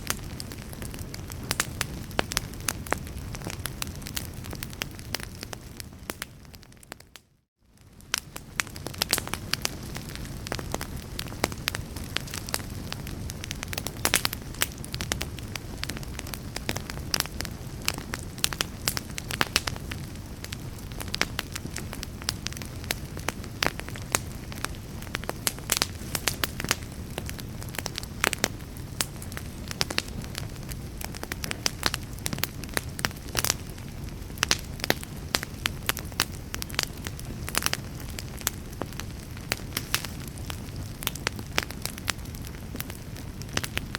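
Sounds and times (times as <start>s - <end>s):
fire crackling and popping: 0.0s - 43.9s
low rumble of flames: 0.0s - 43.9s.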